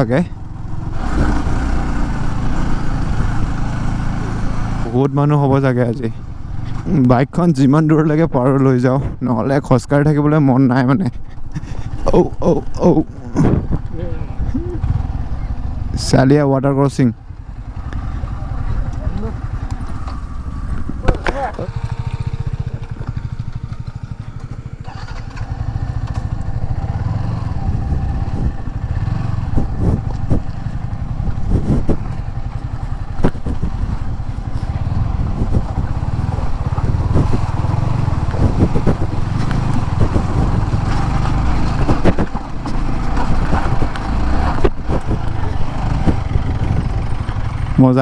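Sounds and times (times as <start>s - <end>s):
motorcycle engine running: 0.0s - 8.7s, 10.1s - 48.0s.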